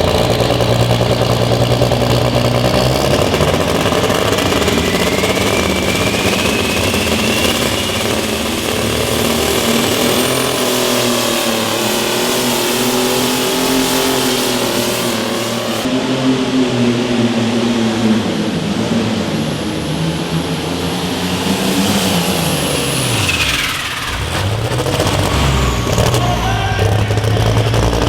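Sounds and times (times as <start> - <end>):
vehicle engine at high revs: 0.0 - 28.0.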